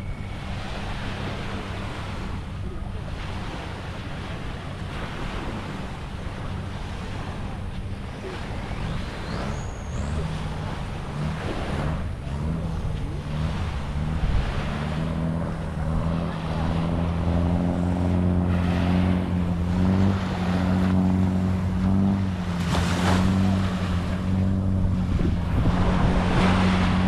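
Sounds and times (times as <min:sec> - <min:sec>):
boat engine running: 0:00.0 - 0:27.0
waves: 0:00.0 - 0:27.0
wind on microphone: 0:00.0 - 0:27.0.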